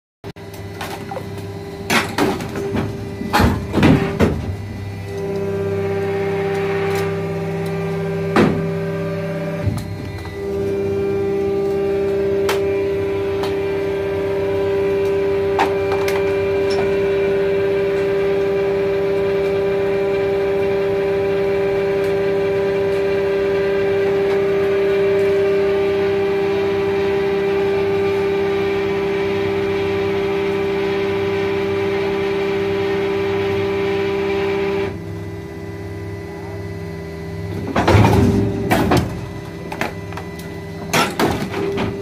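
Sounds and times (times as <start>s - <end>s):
machine hydraulic pump whine: 0.4s - 42.0s.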